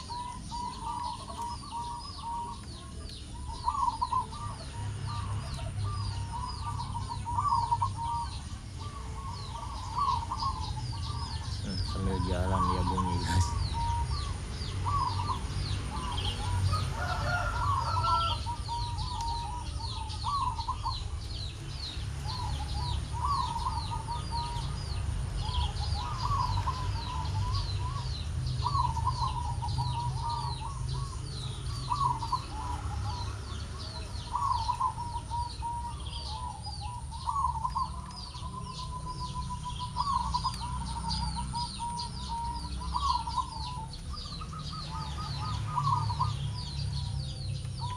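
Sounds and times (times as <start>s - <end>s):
dove cooing in trills: 0.0s - 47.9s
small birds chirping: 0.0s - 47.9s.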